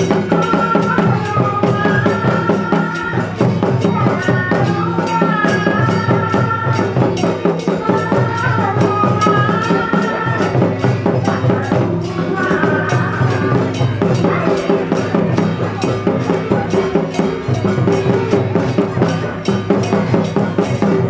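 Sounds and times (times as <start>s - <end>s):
drums beating fast rhythm: 0.0s - 21.0s.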